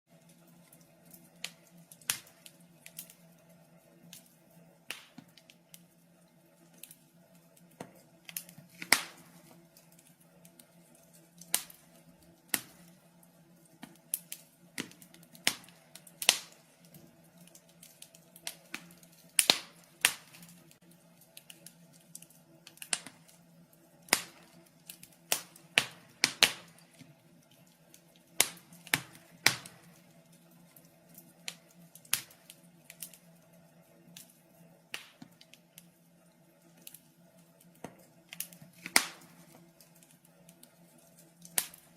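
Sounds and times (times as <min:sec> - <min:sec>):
wood fire crackling: 0:00.1 - 0:41.9.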